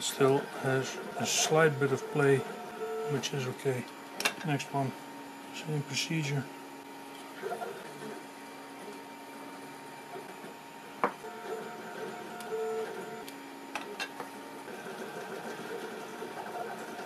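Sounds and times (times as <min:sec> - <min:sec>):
machine whine: 0:00.0 - 0:17.0.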